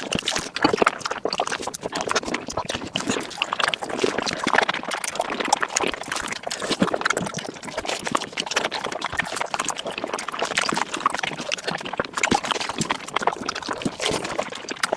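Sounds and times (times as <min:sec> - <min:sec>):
sped-up chewing and mouth noises: 0:00.0 - 0:14.9.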